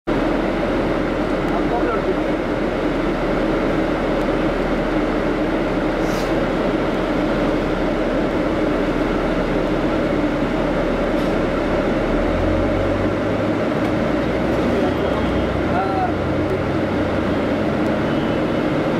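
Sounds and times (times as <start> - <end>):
bus engine: 0.0 - 18.9
road noise: 0.0 - 18.9
constant hum: 0.1 - 18.9.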